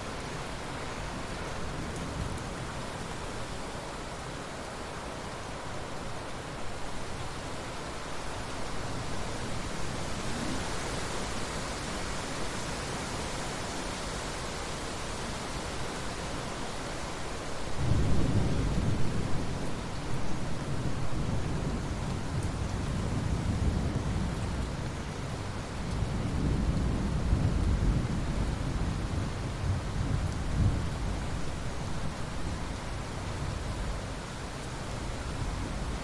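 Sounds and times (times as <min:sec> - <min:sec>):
rain falling on water: 0:00.0 - 0:36.0.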